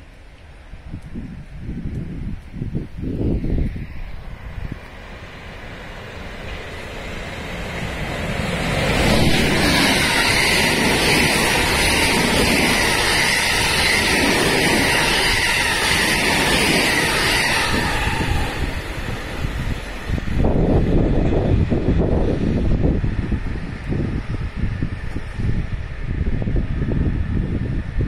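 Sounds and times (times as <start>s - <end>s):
electric train passing: 0.0s - 28.0s.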